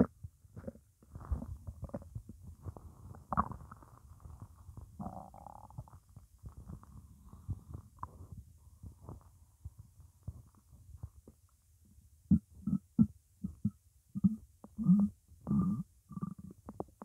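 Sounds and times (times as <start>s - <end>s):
stomach gurgling and rumbling: 0.0s - 17.0s.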